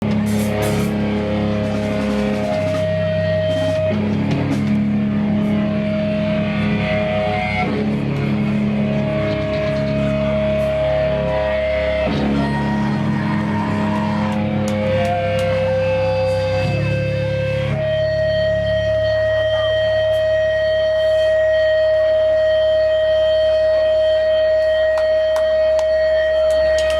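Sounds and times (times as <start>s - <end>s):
electric guitar chords ringing: 0.0s - 26.9s
rock band playing: 0.0s - 26.9s.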